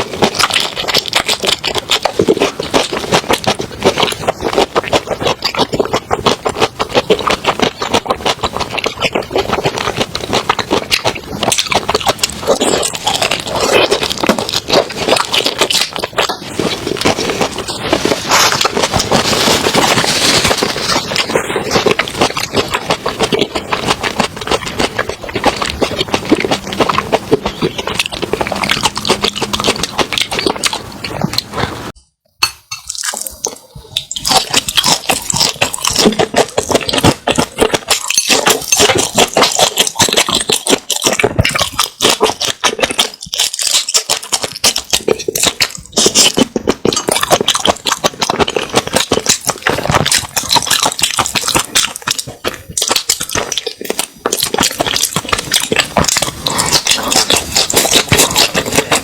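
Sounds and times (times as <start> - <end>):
mouth chewing with wet clicks: 0.0 - 32.0, 32.7 - 59.0.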